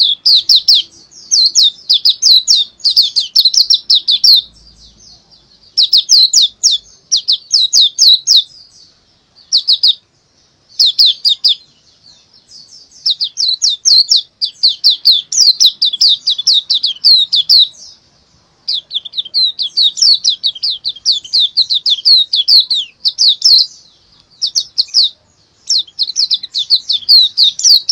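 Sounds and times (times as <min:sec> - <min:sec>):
bird chirping song: 0:00.0 - 0:27.9.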